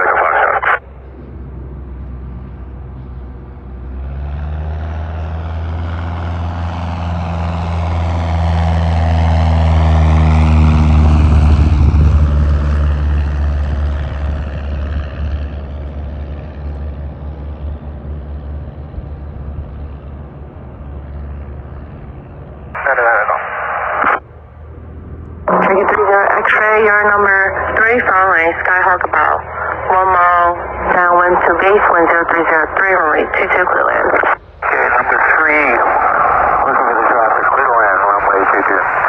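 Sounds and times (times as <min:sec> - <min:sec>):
propeller airplane passing: 0:00.0 - 0:39.0.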